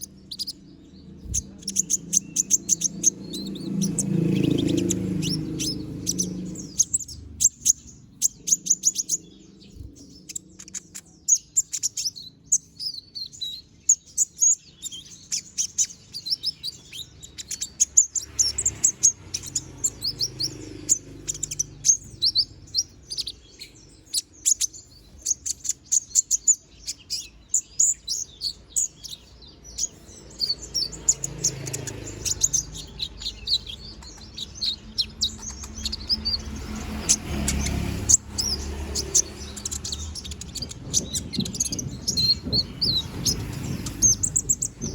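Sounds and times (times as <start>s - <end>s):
songbird high sharp chirps: 0.0s - 44.9s.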